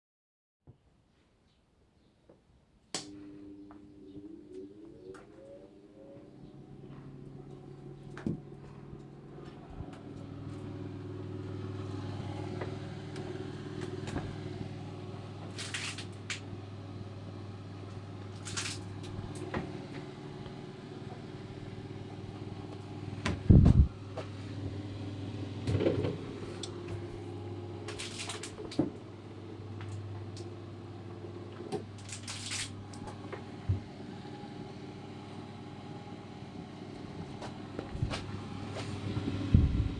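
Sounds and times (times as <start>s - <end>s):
electric motor hum: 3.0s - 39.9s.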